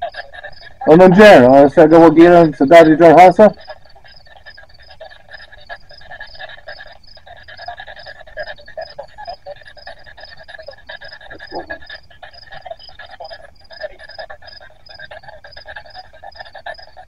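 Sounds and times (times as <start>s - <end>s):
radio static and clipped fragments: 0.0s - 17.0s.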